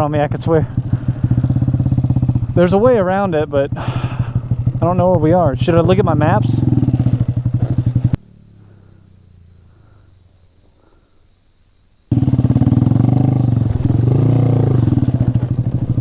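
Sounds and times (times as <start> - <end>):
motorcycle engine revving: 0.0 - 10.1, 12.1 - 16.0
motorcycle engine idling: 0.0 - 11.0, 12.1 - 16.0.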